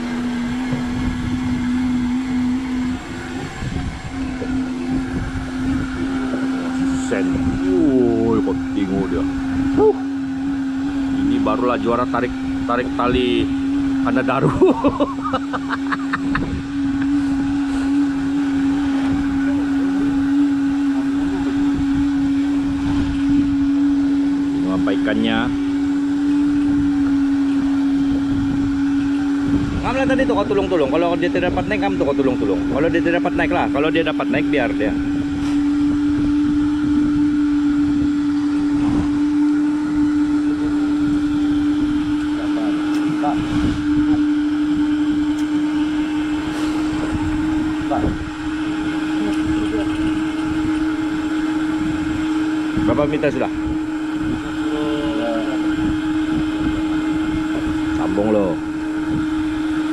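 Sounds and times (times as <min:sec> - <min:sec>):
boat engine humming: 0:00.0 - 0:59.9
water wash: 0:00.0 - 0:59.9.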